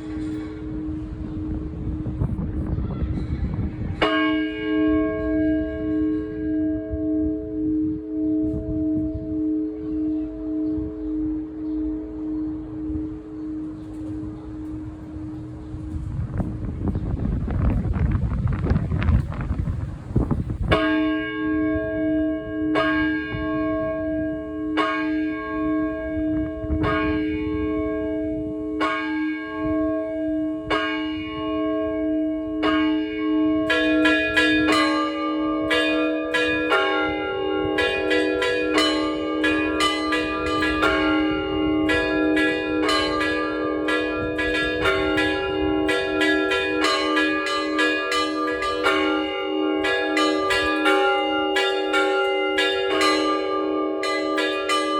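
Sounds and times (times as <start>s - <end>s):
higher bells pealing: 0.0s - 17.1s, 20.5s - 54.9s
large church bell strikes: 0.0s - 18.1s, 20.3s - 54.9s.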